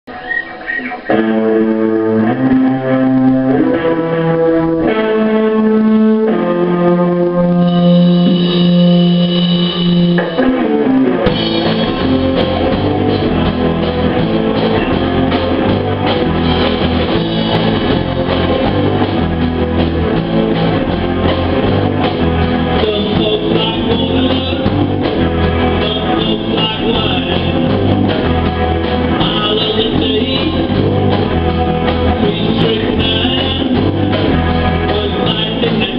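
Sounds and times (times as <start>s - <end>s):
drum kit: 0.1s - 35.9s
electric guitar held notes: 0.1s - 35.9s
rock band playing: 0.1s - 35.9s.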